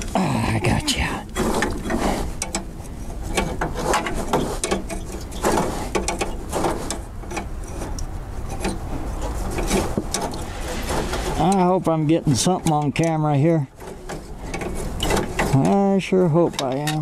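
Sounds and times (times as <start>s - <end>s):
wrench clicking and scraping: 1.3s - 11.7s, 12.3s - 17.0s.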